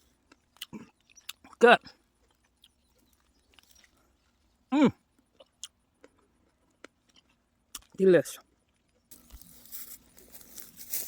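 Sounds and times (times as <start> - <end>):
person chewing tomato: 0.0 - 9.4.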